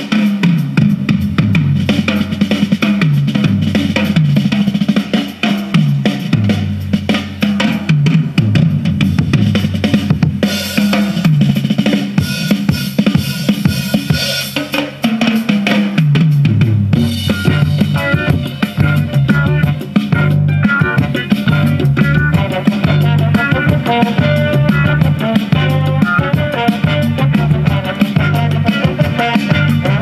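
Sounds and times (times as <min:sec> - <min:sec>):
instrumental music with drums and bass: 0:00.0 - 0:30.0.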